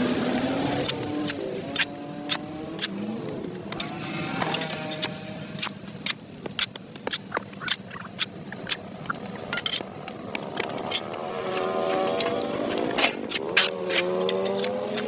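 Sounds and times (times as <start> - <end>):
hand tool scraping on pavement: 0.6 - 15.0.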